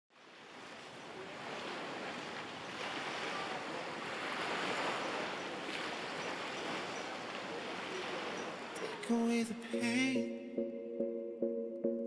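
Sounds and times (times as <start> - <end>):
waves washing in: 0.1 - 11.6.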